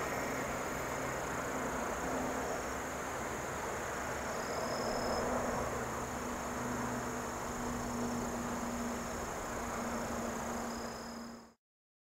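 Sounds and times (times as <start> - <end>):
insects trilling: 0.0 - 11.6.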